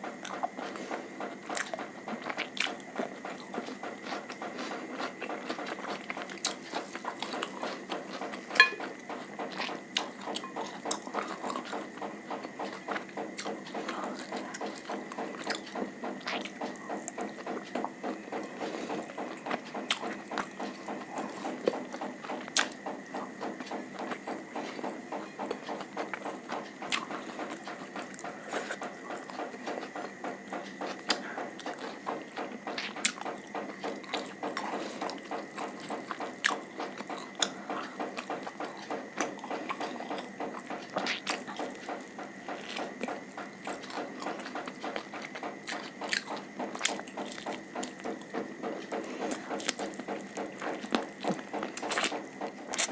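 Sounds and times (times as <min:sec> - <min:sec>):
person chewing: 0:00.2 - 0:12.0, 0:12.6 - 0:52.9.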